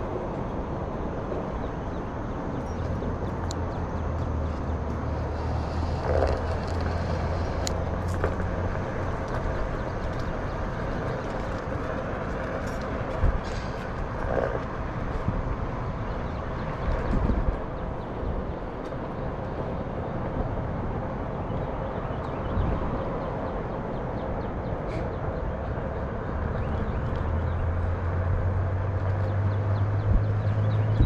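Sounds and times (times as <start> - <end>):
traffic: 0.0 - 31.0.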